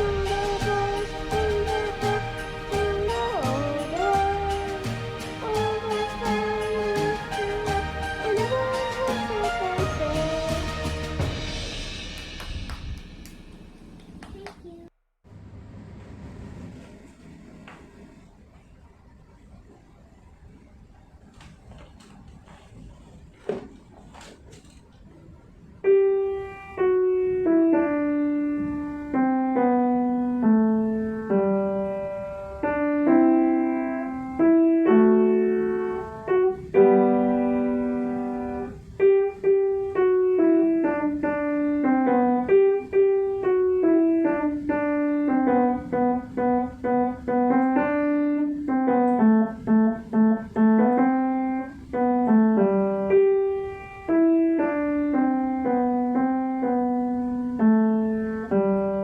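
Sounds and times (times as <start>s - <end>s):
solo piano melody: 0.0s - 14.0s, 25.8s - 59.0s.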